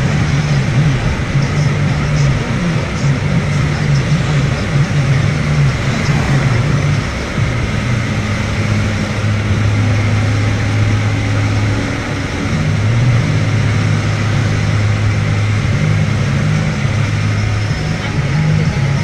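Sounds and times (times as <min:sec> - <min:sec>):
car engine drone: 0:00.0 - 0:19.0
road and tyre noise: 0:00.0 - 0:19.0.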